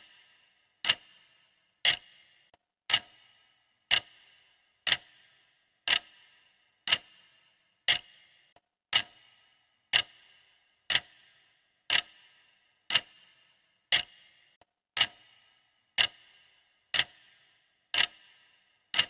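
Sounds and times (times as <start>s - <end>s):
clock ticking: 0.0s - 19.0s.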